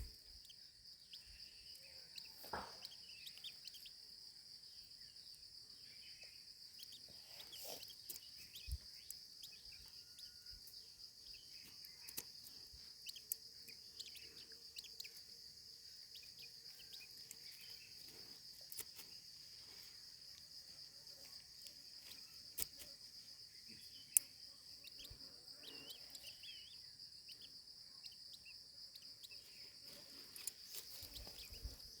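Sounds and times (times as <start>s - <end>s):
faint bird chirps: 0.0s - 32.0s
insects trilling: 0.0s - 32.0s.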